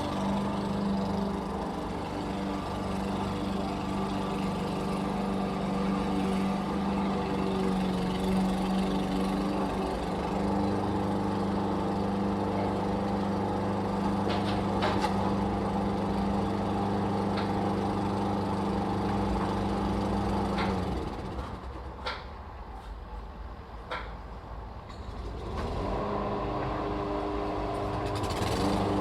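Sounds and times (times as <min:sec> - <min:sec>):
lawn mower engine running: 0:00.0 - 0:22.1, 0:25.0 - 0:29.0.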